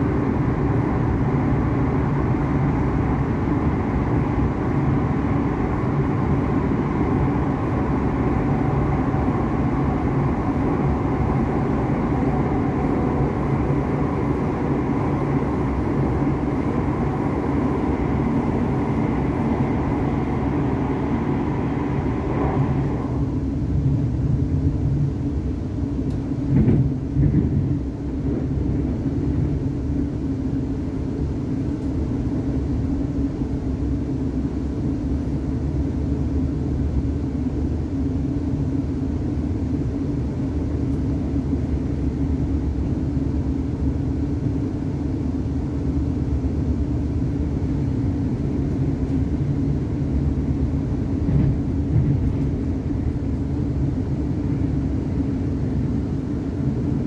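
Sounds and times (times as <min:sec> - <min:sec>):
train wheels rumbling on rail: 0:00.0 - 0:57.0
tunnel roar: 0:00.0 - 0:57.0.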